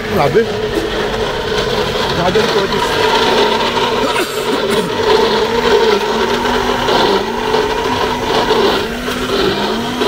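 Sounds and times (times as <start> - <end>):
electric blender running: 0.0 - 10.0.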